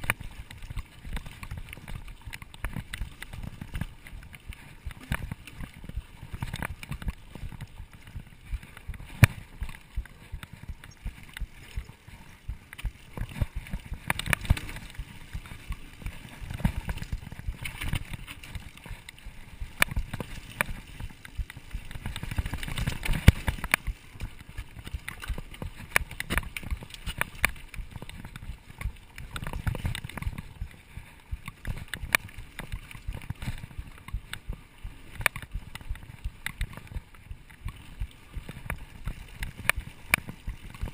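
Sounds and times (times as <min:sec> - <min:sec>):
bike rattles and clicks: 0:00.0 - 0:40.9
wind and tyres rumbling: 0:00.0 - 0:40.9.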